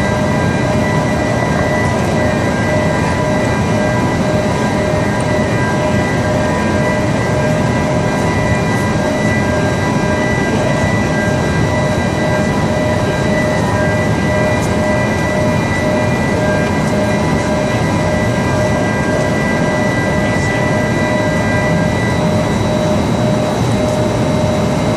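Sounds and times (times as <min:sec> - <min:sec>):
constant whining tones: 0:00.0 - 0:24.9
furnace roaring: 0:00.0 - 0:24.9.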